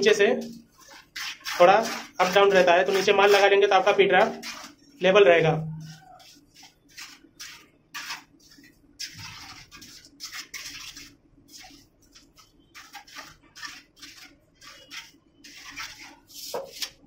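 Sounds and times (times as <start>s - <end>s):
trowel scraping wet mortar: 0.0s - 4.8s, 5.7s - 17.0s.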